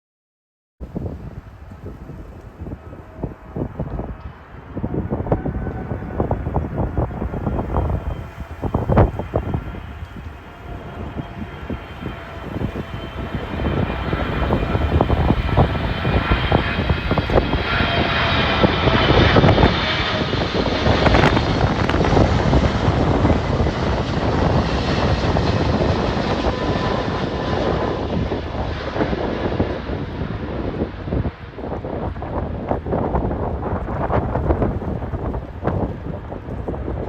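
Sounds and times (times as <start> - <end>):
high jet engine whine: 0.8 - 37.0
jet airliner engines passing: 0.8 - 37.0
wind buffeting microphone: 0.8 - 37.0.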